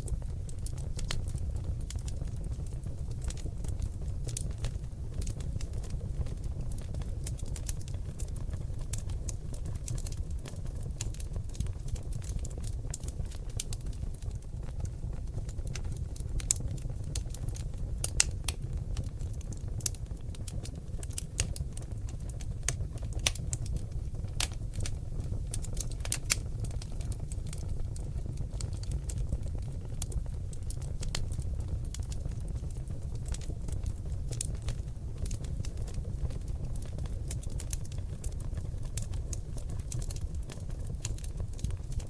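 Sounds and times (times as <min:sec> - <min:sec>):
log fire crackling: 0:00.0 - 0:42.0
sharp pops of fire: 0:00.1 - 0:42.0.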